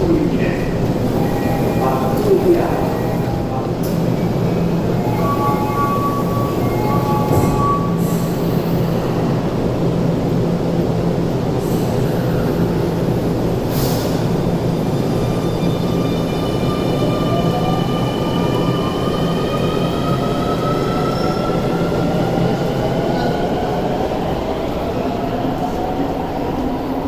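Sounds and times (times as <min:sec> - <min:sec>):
electric train humming: 0:00.0 - 0:27.0.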